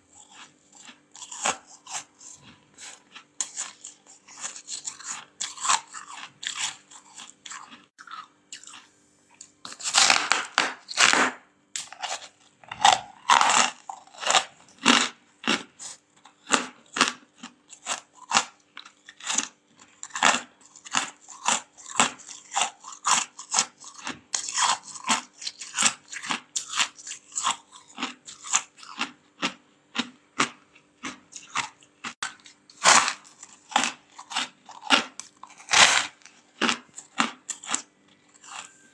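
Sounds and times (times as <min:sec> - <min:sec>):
crunchy frost being chewed: 0:00.0 - 0:38.9.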